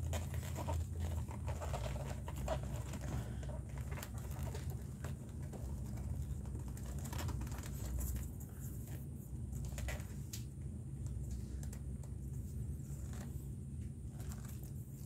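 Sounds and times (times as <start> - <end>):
lace clicking and scratching: 0.0 - 15.0
low steady hum: 0.0 - 15.0.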